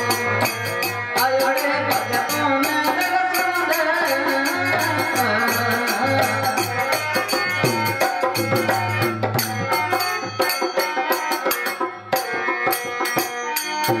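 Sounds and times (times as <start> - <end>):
hand drum: 0.0 - 14.0
keyboard melody: 0.0 - 14.0.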